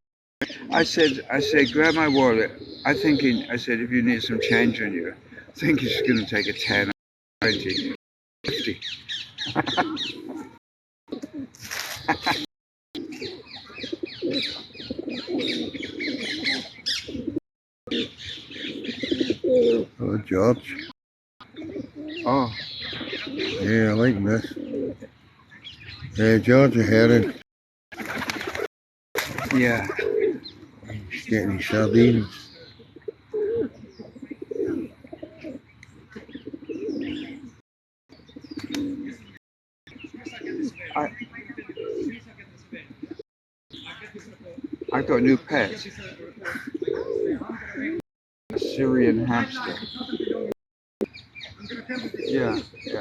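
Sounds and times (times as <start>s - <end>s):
pigeons cooing: 0.4s - 27.4s, 28.0s - 43.2s, 44.2s - 53.0s
small birds chirping: 0.4s - 27.4s, 29.4s - 53.0s.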